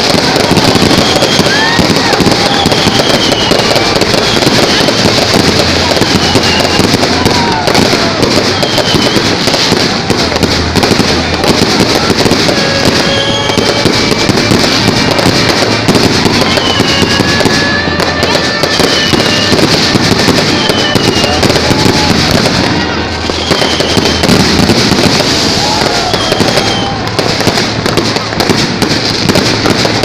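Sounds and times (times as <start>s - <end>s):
fireworks bangs and crackling: 0.0s - 30.0s
fireworks whistling: 0.0s - 30.0s.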